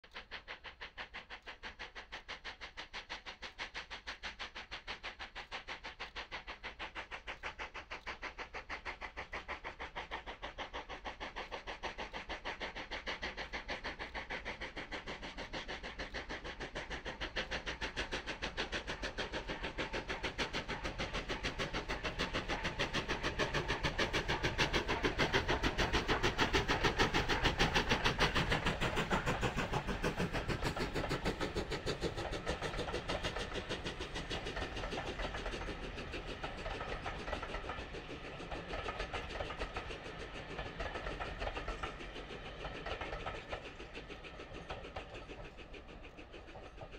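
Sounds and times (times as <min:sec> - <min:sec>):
steam locomotive chuffing: 0:00.0 - 0:46.9.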